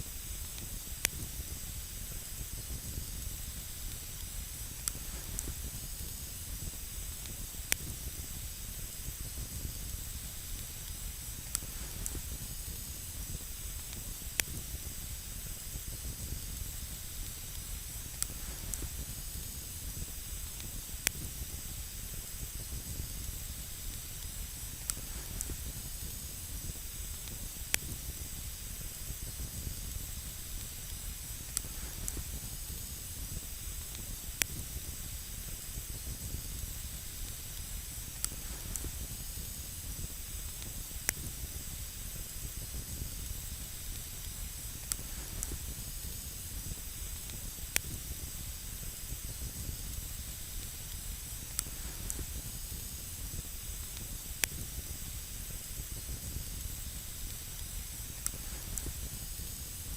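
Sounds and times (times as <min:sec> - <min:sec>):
campfire burning: 0:00.0 - 0:59.9.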